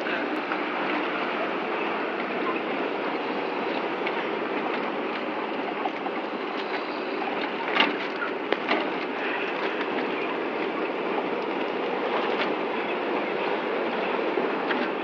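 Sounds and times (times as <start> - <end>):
train carriage running noise: 0.0 - 15.0.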